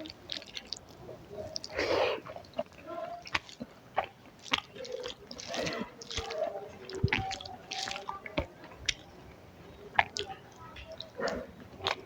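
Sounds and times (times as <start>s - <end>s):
chewing and wet mouth smacks: 0.0s - 12.0s.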